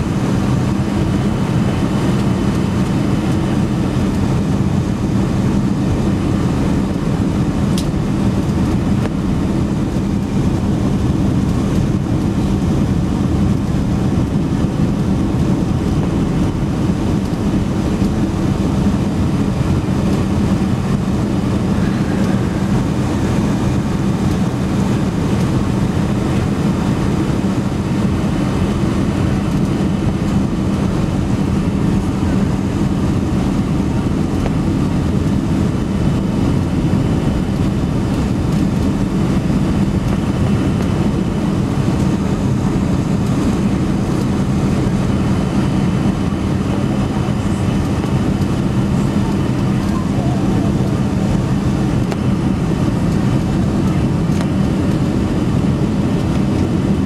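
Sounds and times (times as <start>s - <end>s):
airliner cabin air rush: 0.0s - 57.0s
steady low hum: 0.0s - 57.0s.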